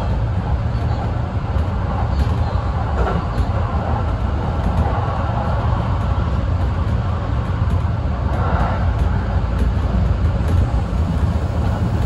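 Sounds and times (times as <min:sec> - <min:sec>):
train running at speed: 0:00.0 - 0:12.0.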